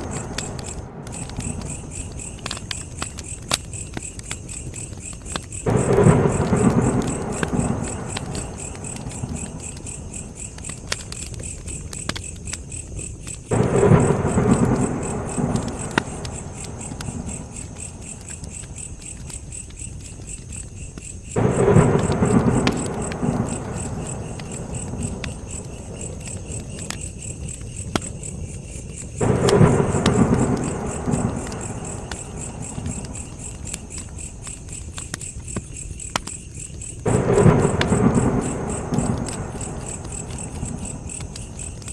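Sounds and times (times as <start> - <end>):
campfire crackling: 0.0 - 41.9
crickets chirping: 0.0 - 41.9.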